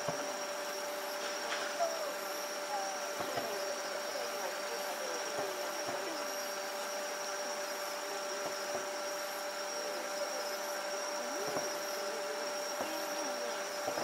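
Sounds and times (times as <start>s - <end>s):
high-pitched drone: 0.0s - 14.0s.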